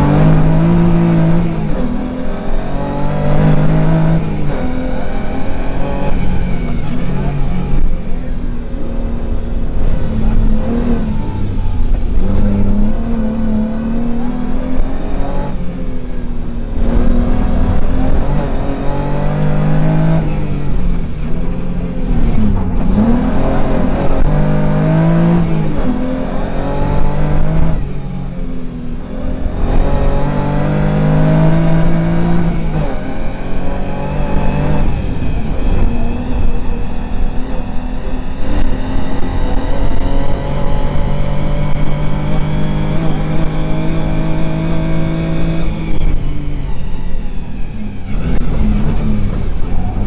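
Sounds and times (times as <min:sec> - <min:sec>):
rally car engine revving hard: 0:00.0 - 0:50.0.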